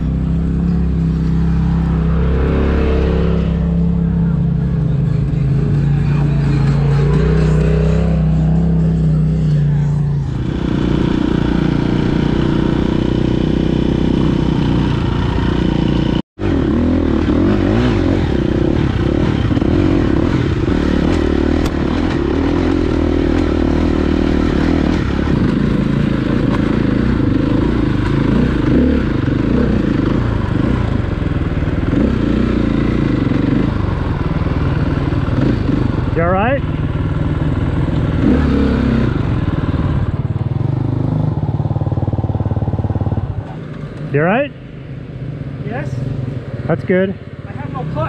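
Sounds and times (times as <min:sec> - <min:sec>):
dirt bike engine revving: 0:00.0 - 0:44.5.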